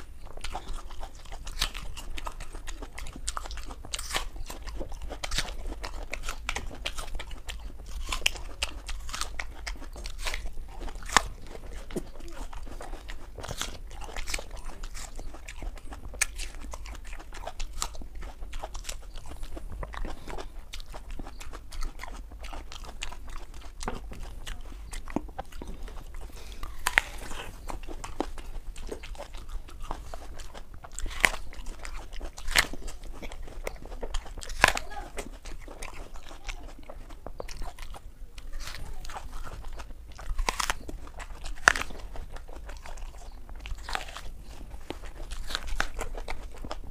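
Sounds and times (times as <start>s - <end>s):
apples being bitten and chewed: 0.0s - 46.9s.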